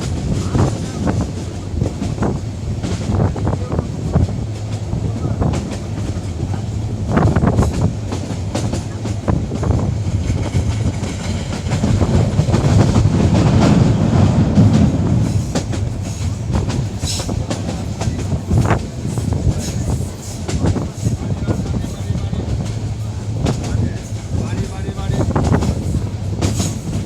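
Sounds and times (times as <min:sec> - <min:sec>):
train rumbling along track: 0:00.0 - 0:27.0
train wheels clacking: 0:00.0 - 0:27.0.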